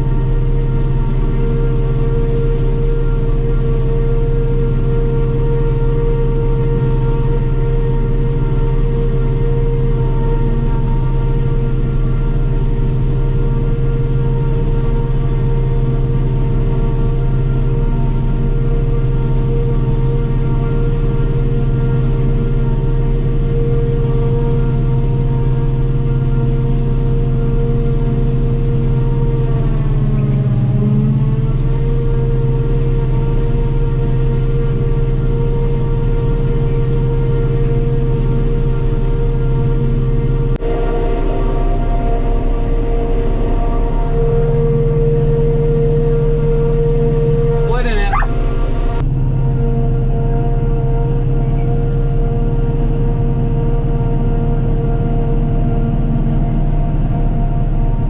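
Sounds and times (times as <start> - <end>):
forage harvester drone: 0.0 - 58.0
steady machine whine: 0.0 - 58.0.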